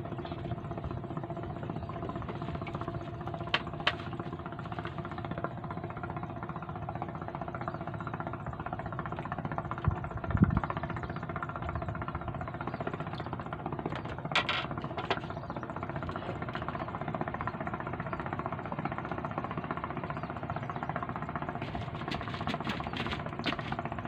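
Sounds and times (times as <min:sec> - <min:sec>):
small engine chugging: 0:00.0 - 0:24.0.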